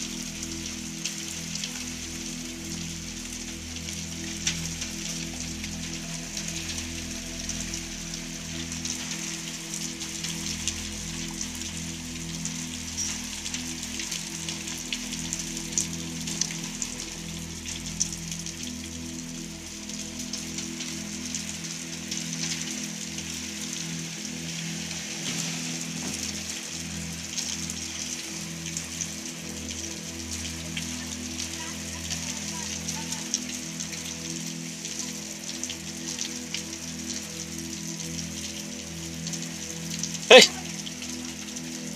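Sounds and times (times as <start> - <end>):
heavy rain hissing: 0.0 - 41.9.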